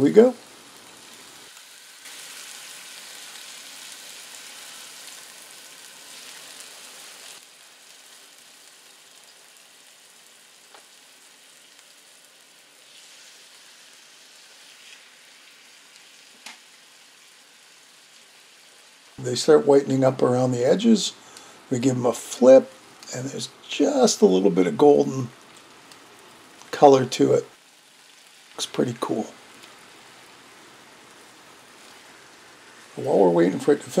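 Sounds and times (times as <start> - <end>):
chicken sizzling in hot oil: 0.0 - 19.8, 22.3 - 34.0.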